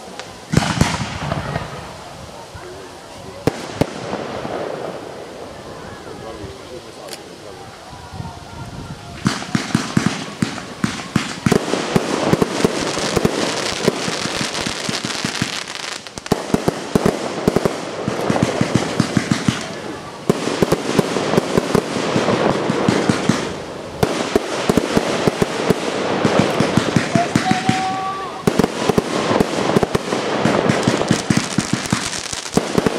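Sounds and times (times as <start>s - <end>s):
fireworks cracking and popping: 0.0s - 32.9s
fireworks hiss: 0.0s - 32.9s.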